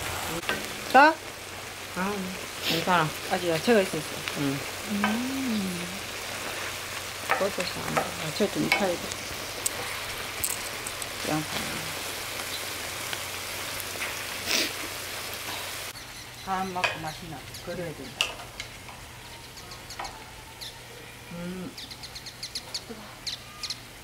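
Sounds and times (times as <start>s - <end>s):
food sizzling on a griddle: 0.0s - 24.0s.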